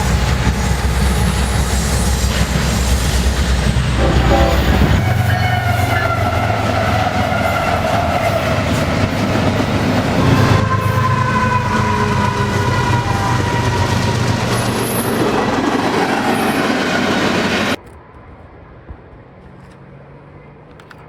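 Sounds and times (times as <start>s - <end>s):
steady pitched tone: 0.0s - 17.7s
model train rumbling: 0.0s - 17.8s.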